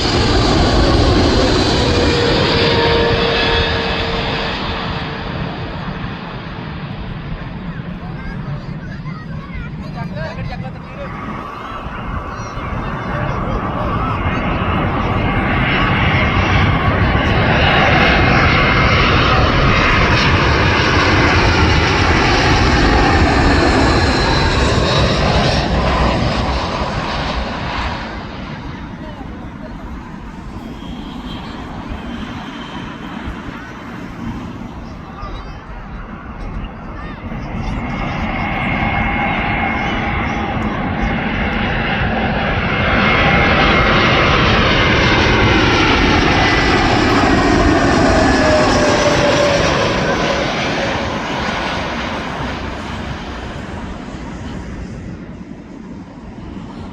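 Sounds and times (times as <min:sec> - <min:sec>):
jet airliner passing overhead: 0:00.0 - 0:56.9
jet engine whine: 0:00.0 - 0:56.9.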